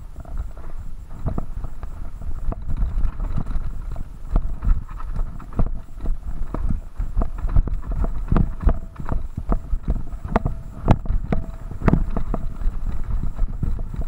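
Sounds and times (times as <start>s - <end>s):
bike knocks and rattles: 0.0s - 14.0s.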